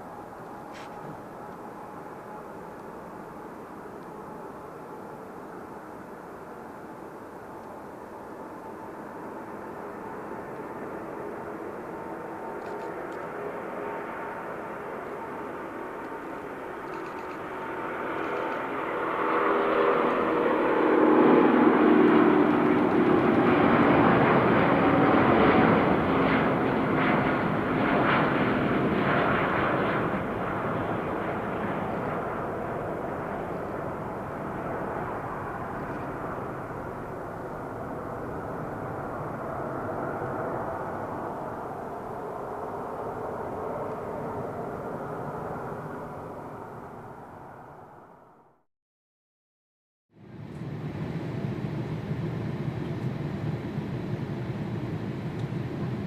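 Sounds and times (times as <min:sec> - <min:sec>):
jet engines roaring past: 0:00.0 - 0:48.5, 0:50.2 - 0:56.0.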